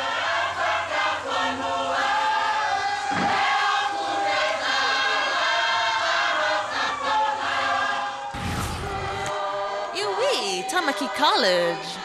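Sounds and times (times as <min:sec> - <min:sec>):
choir singing in harmony: 0:00.0 - 0:12.0.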